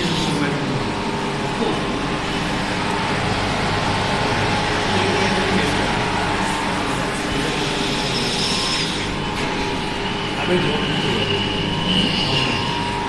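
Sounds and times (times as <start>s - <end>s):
laser welder hum and fan: 0.0s - 13.0s.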